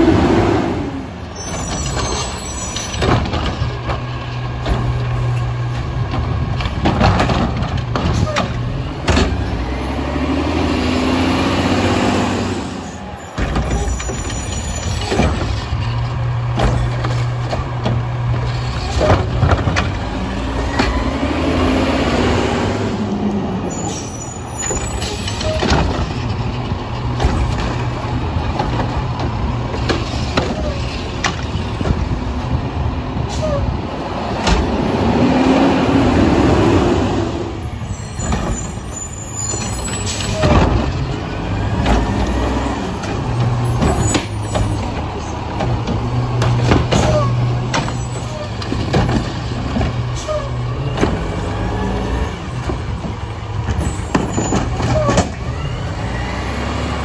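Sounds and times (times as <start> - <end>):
garbage truck engine revving: 0.0 - 14.2, 14.9 - 57.0.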